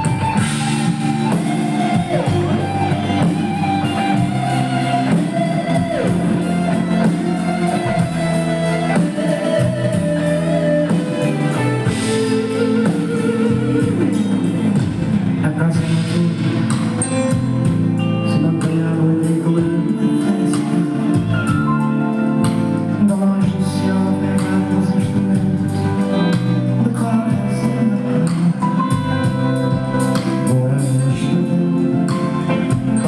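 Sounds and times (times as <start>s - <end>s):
live band playing upbeat song: 0.0s - 33.0s
person singing: 0.0s - 33.0s.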